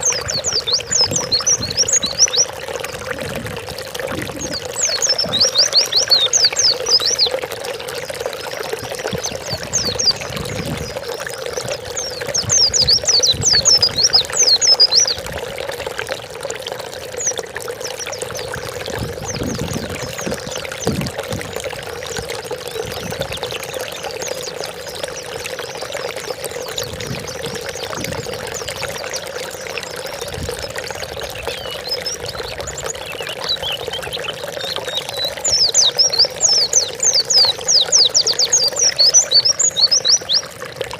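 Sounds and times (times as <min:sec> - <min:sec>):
bird twittering chirps: 0:00.0 - 0:03.5, 0:04.1 - 0:07.4, 0:08.3 - 0:15.2, 0:17.2 - 0:40.5
trickling water: 0:00.0 - 0:40.9.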